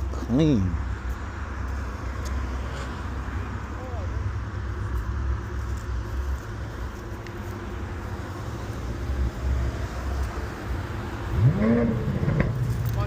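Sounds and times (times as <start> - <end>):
car engines idling: 0.0 - 13.0
outdoor background noise: 0.0 - 13.0.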